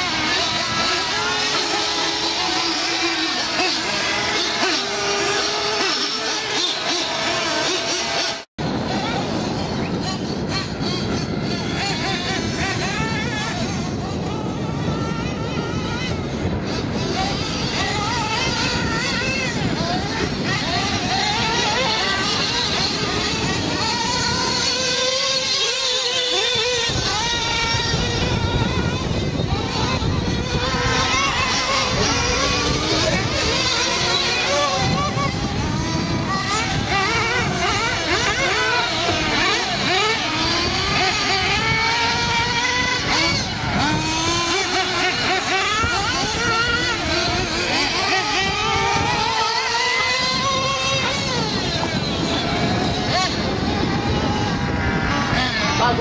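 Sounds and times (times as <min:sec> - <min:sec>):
rc car engine revving: 0:00.0 - 0:56.0.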